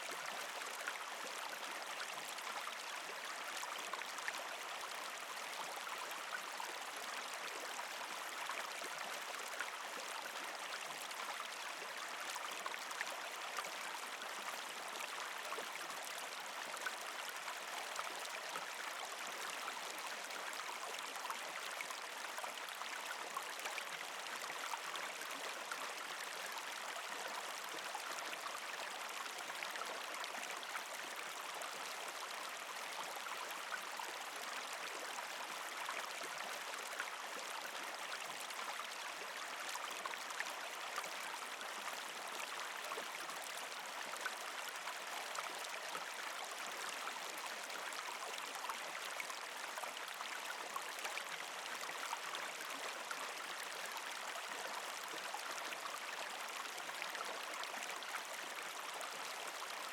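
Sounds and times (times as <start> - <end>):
creek water gurgling over rocks: 0.0 - 59.9.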